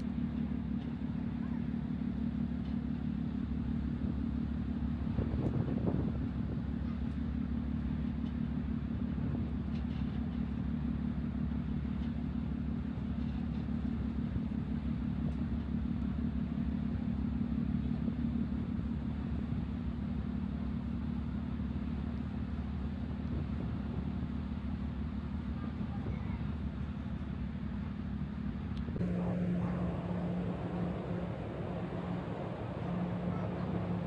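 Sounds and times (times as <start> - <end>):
low engine rumble: 0.0 - 34.0.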